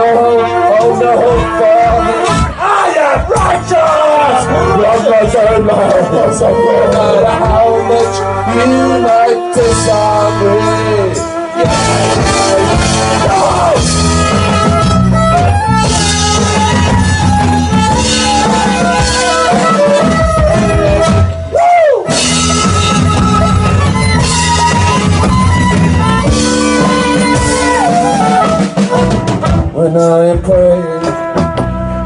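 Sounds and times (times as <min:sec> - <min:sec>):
guitar melody: 0:00.0 - 0:32.0
rock band playing: 0:00.0 - 0:32.0.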